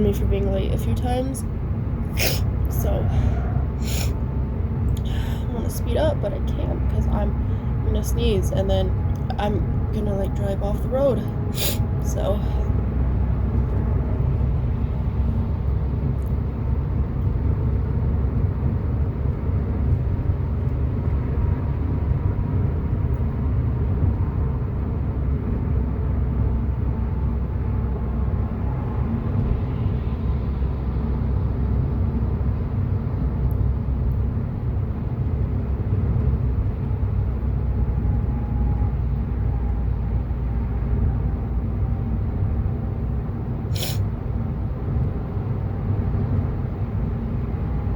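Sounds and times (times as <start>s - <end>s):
road and engine rumble in car: 0.0s - 47.9s.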